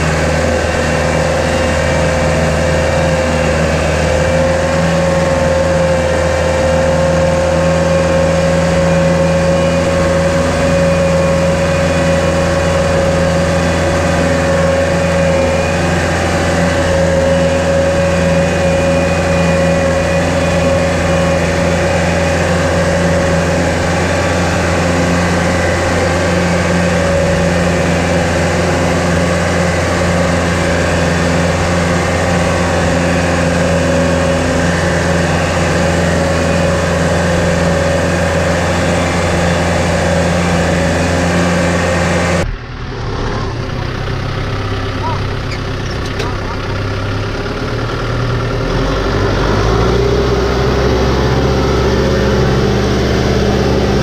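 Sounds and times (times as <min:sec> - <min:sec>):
high whine: 0:00.0 - 0:45.4
tractor diesel engine running: 0:00.0 - 0:54.0.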